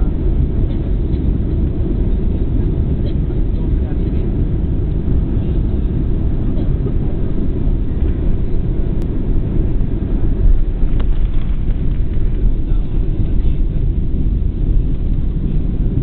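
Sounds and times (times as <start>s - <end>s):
engine rumble and rushing air: 0.0s - 16.0s.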